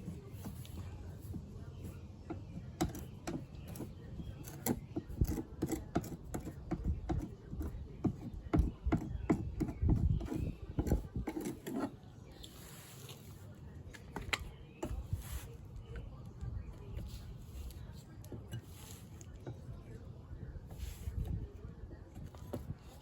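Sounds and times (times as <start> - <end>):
rubbing and scraping: 0.0 - 23.0.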